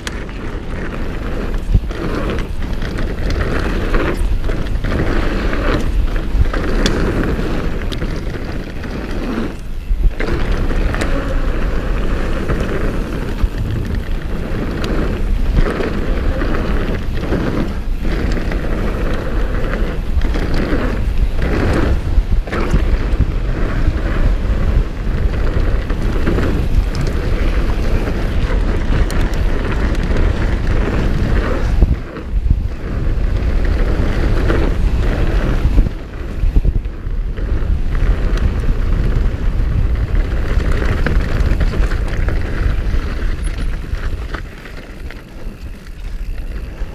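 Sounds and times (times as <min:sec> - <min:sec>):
bike knocks and rattles: 0:00.0 - 0:46.9
bike tyre noise: 0:00.0 - 0:46.9
wind buffeting microphone: 0:00.0 - 0:46.9.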